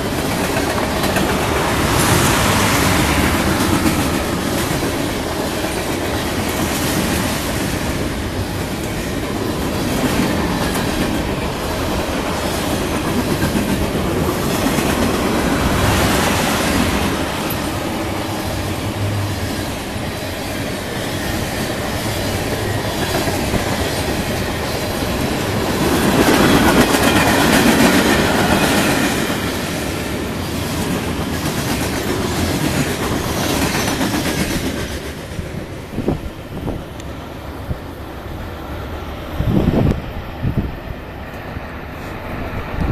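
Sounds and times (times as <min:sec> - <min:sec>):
steel wheels clacking on rail joints: 0:00.0 - 0:36.2
freight train cars rolling past: 0:00.0 - 0:42.9.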